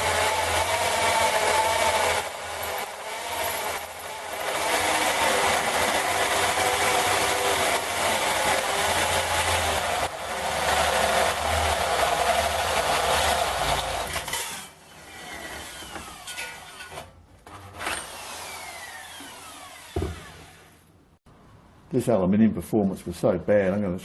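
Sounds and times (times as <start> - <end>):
drill hole saw grinding aluminium: 0.0 - 17.1, 17.8 - 20.8
noisy drill gearbox: 0.0 - 20.7.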